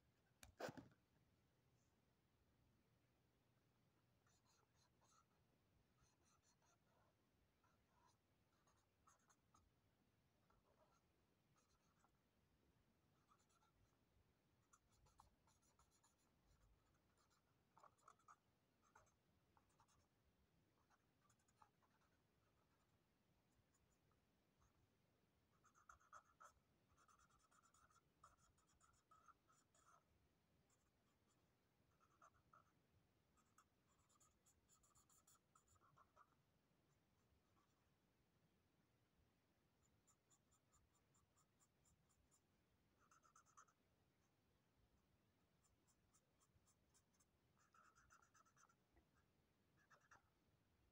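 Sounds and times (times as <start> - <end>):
marker drawing on paper: 0.4 - 1.0, 4.2 - 12.3, 13.0 - 24.8, 25.5 - 38.0, 39.8 - 44.4, 45.0 - 50.5.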